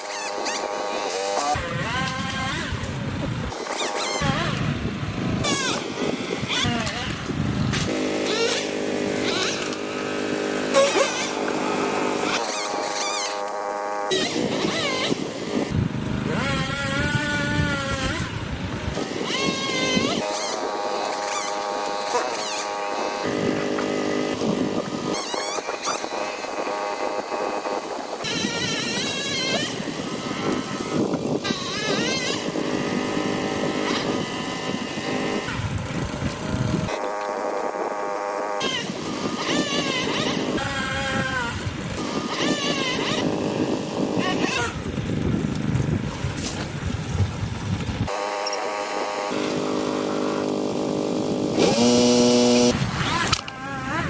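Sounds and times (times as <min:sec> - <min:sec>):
engine running: 0:00.0 - 0:28.3, 0:29.5 - 0:54.0.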